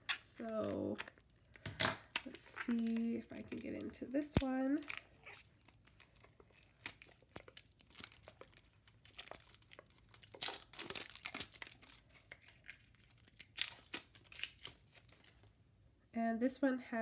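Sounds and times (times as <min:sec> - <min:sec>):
packaging crinkling and tearing: 0:00.0 - 0:15.5.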